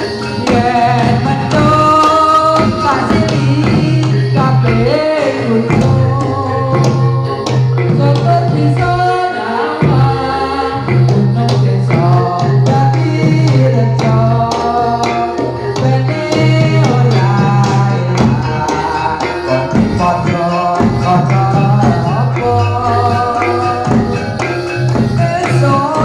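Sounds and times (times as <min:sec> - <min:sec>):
drums: 0:00.0 - 0:26.0
jingling percussion: 0:00.0 - 0:26.0
person singing: 0:00.0 - 0:26.0.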